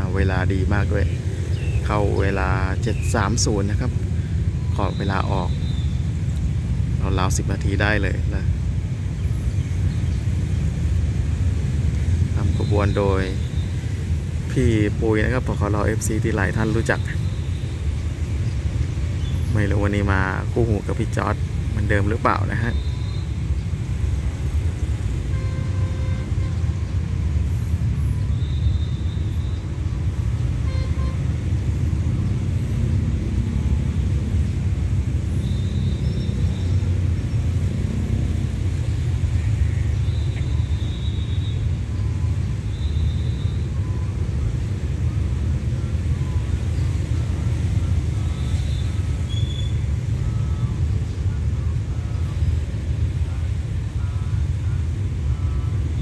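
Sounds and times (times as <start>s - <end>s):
distant road traffic rumble: 0.0s - 56.0s.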